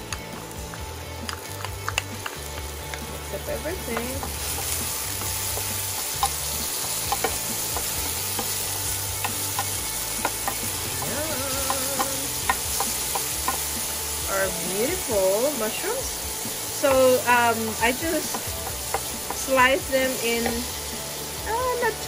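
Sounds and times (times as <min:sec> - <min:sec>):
onion sizzling in hot oil: 0:00.0 - 0:22.0.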